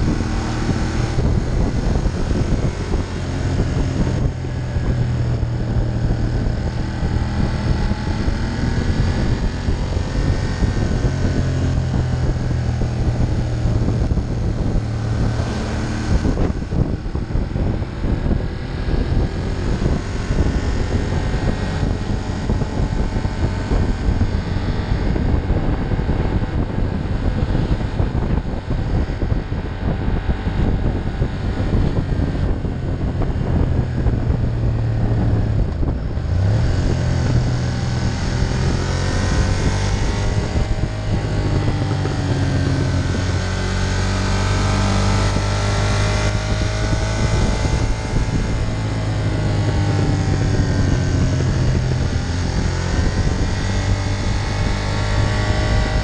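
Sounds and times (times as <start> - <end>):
motorcycle engine running: 0.0 - 56.0
road noise: 0.0 - 56.0
wind on microphone: 0.0 - 56.0.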